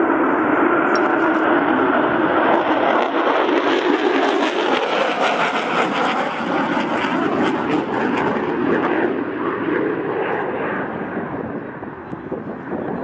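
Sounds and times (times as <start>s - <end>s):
aircraft engines flying overhead: 0.0s - 13.0s.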